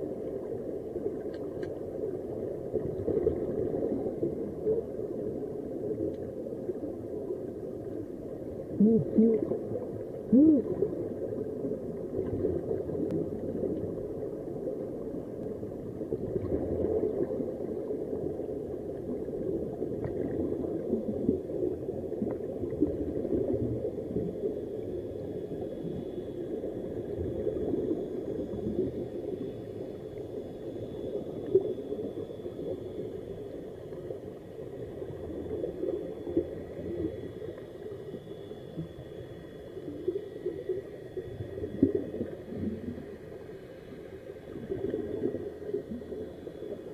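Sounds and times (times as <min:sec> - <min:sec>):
underwater air bubbling: 0:00.0 - 0:46.9.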